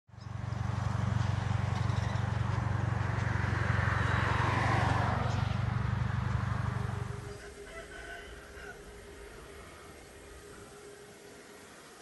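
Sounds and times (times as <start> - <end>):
engine rumbling: 0.1 - 12.0
broad rushing noise: 0.4 - 12.0.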